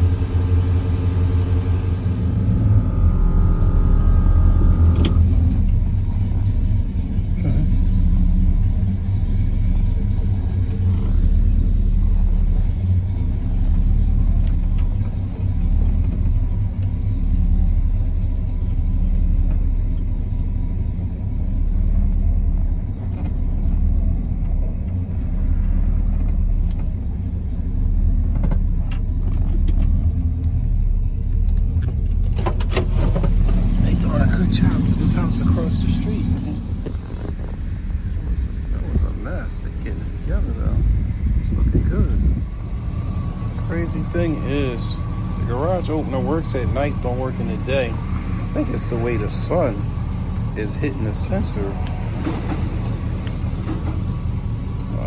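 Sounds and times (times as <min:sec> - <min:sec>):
car engine rumble in cabin: 0:00.0 - 0:55.0
road noise: 0:00.0 - 0:55.0.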